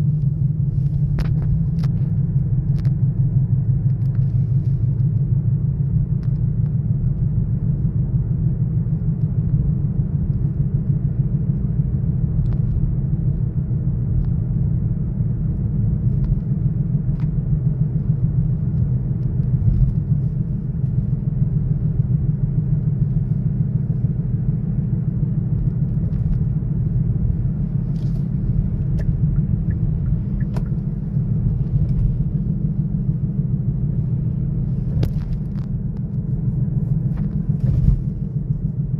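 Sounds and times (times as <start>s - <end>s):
car engine running steadily: 0.0s - 38.9s.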